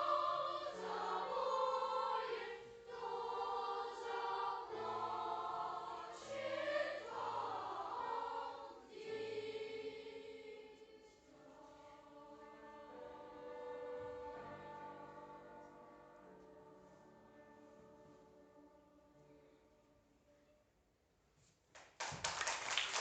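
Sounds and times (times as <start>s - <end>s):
choir singing: 0.0s - 19.6s.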